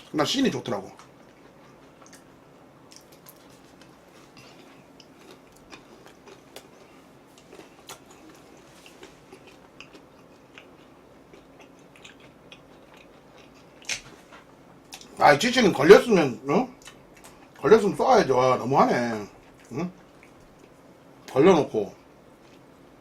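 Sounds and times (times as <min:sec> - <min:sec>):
person chewing crunchy pizza: 0:00.8 - 0:15.2, 0:16.7 - 0:17.9, 0:19.0 - 0:21.4, 0:22.3 - 0:23.0.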